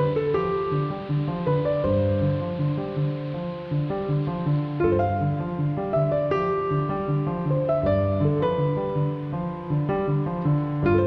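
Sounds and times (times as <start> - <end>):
instrumental music with bass line: 0.0 - 11.0.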